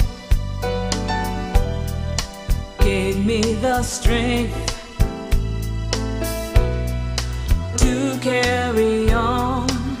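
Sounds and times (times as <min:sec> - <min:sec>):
instrumental gospel music: 0:00.0 - 0:10.0.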